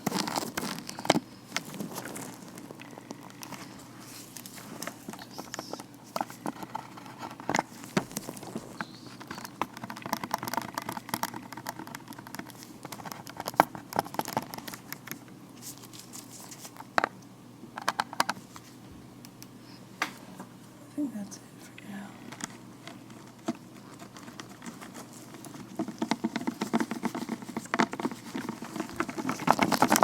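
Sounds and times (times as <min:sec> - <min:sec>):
rubber glove crinkling: 0:00.0 - 0:17.0, 0:22.9 - 0:30.0.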